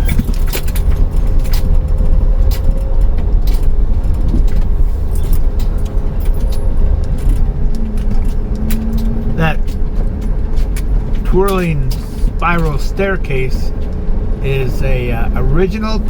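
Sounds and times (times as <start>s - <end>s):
short rattles and clicks: 0.0s - 14.1s
engine and road rumble: 0.0s - 16.0s.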